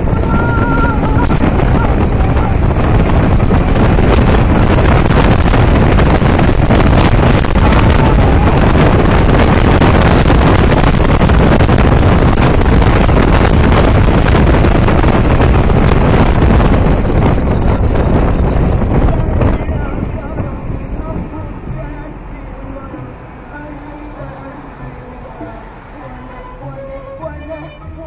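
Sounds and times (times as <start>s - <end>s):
wind buffeting microphone: 0.0s - 27.4s
car road noise: 0.0s - 28.0s.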